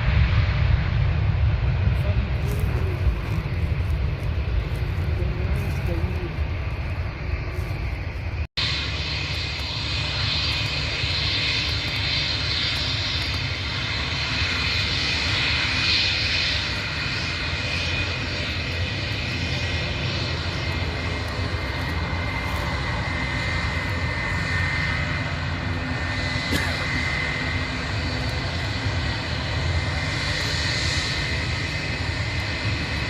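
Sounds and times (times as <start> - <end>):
jet engines rushing: 0.0 - 33.0.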